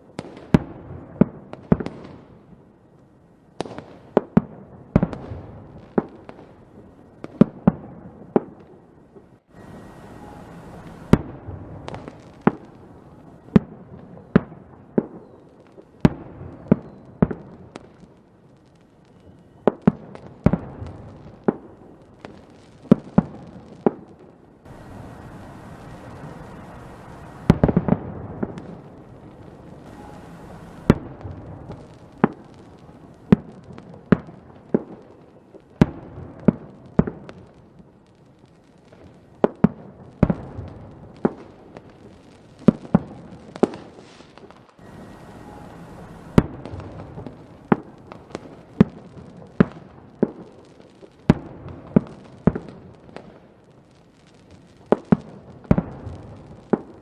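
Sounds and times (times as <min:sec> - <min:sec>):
fireworks bangs: 0:03.6 - 0:18.1, 0:19.1 - 0:37.6, 0:38.8 - 0:53.6, 0:54.2 - 0:57.0
fireworks crackling: 0:03.6 - 0:57.0.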